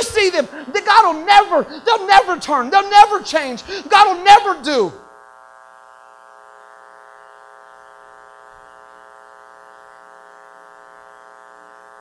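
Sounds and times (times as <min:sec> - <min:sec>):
electrical mains buzz: 0:00.0 - 0:12.0.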